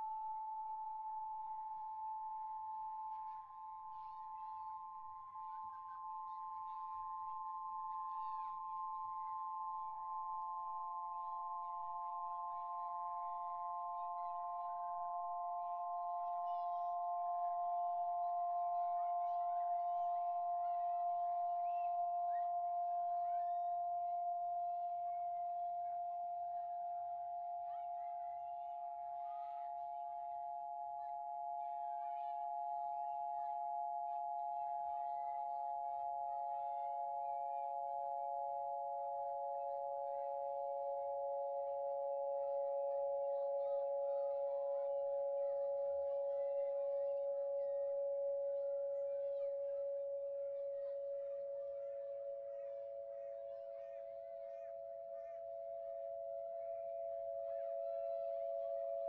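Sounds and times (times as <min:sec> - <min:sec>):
faint high chirps and trills: 0:00.0 - 0:59.0
steady drone of held pitches: 0:00.0 - 0:59.0.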